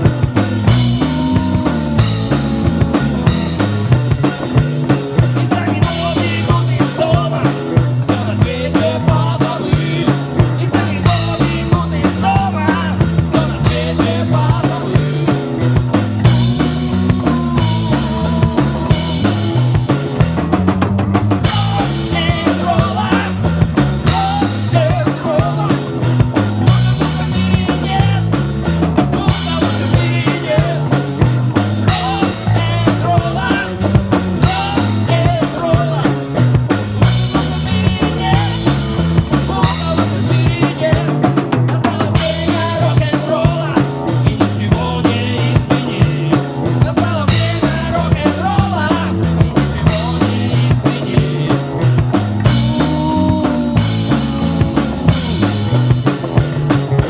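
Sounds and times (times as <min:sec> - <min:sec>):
bass guitar walking pattern: 0:00.0 - 0:57.0
drum kit beat with rimshots: 0:00.0 - 0:57.0
electric guitar: 0:00.0 - 0:57.0.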